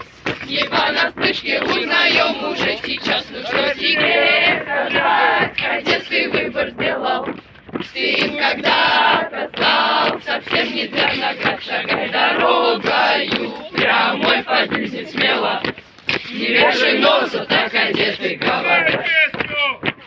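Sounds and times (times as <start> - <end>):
group singing in unison: 0.3 - 19.0.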